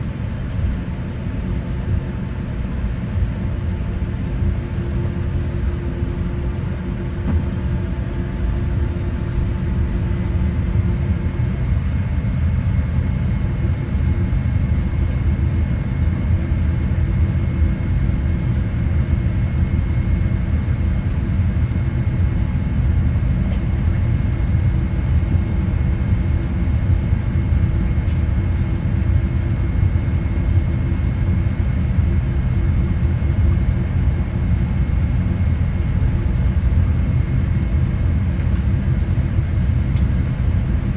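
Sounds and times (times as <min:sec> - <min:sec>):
aircraft cabin low rumble: 0:00.0 - 0:40.9
faint steady whine: 0:00.0 - 0:40.9.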